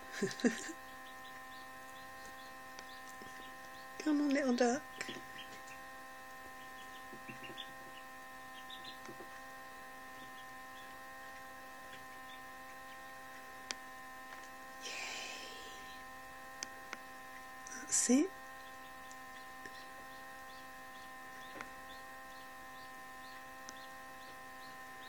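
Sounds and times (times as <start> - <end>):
incubator electrical hum: 0.0 - 25.0
steady electronic tones: 0.0 - 25.0.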